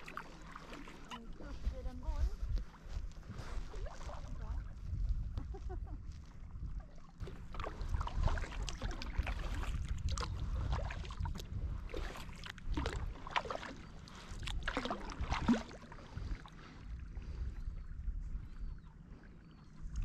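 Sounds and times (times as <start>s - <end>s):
paddle splashing water: 0.0s - 4.6s, 6.1s - 17.5s
water sloshing: 0.0s - 4.9s, 5.5s - 19.2s
steady low rumble: 0.0s - 20.0s.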